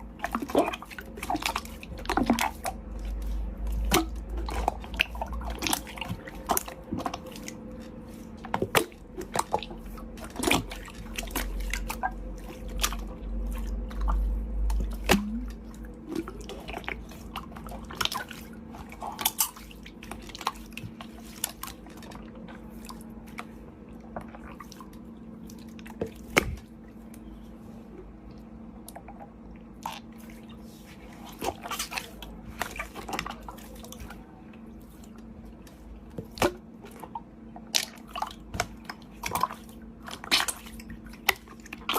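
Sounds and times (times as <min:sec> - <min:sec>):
faint steady hum: 0:00.0 - 0:41.9
slime squishing with wet clicks: 0:00.0 - 0:41.9.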